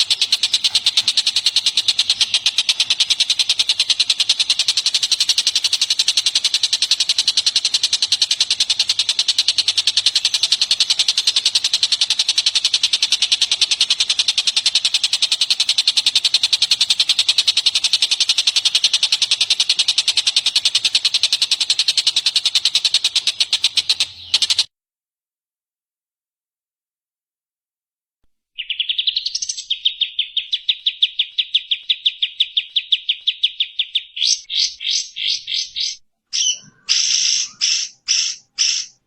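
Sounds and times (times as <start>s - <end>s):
songbird rapid trill: 0.0s - 24.7s, 28.6s - 39.0s.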